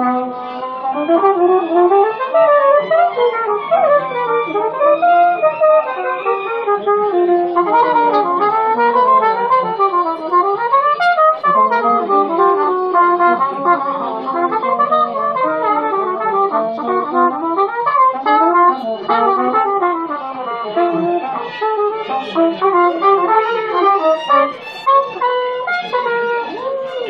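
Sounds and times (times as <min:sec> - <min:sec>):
muted trumpets improvising jazz: 0:00.0 - 0:27.0.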